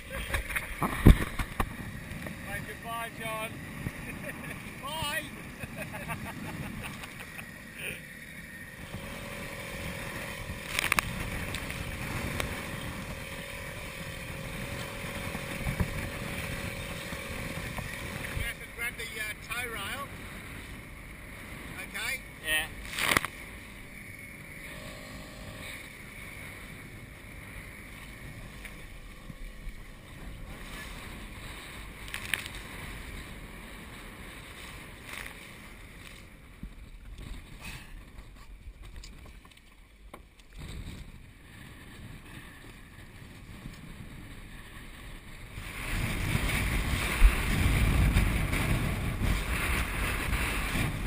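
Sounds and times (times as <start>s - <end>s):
wind and choppy water: 0.0s - 51.0s
wind buffeting microphone: 0.0s - 51.0s.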